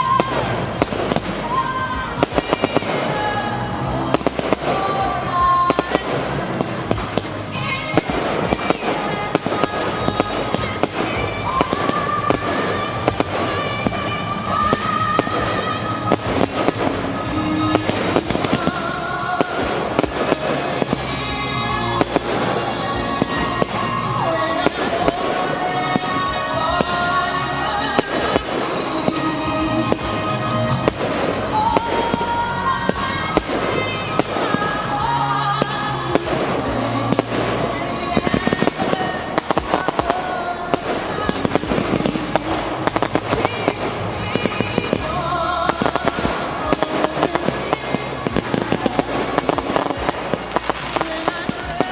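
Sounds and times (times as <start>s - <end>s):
fireworks bangs and crackles: 0.0s - 51.9s
song with singing: 0.0s - 51.9s.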